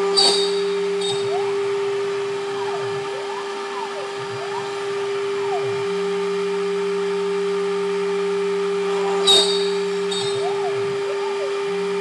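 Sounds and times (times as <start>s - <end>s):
drive motors whining in pitch: 0.0s - 12.0s
spindle whine: 0.0s - 12.0s
steady low hum: 0.0s - 12.0s.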